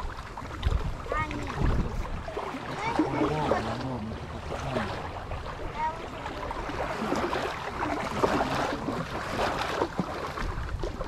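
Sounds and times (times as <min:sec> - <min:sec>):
small waves lapping: 0:00.0 - 0:11.0
wind buffeting microphone: 0:00.0 - 0:11.0.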